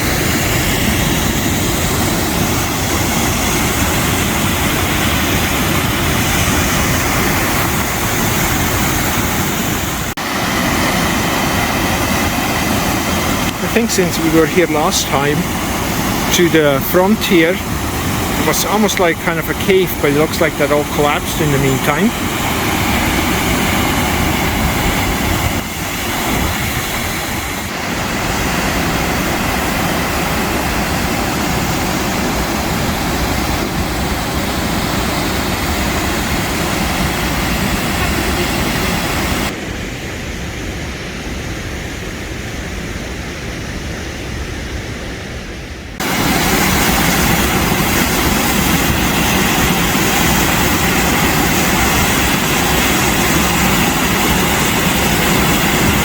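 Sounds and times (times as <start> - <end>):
roar of rushing waterfall: 0.0 - 56.0.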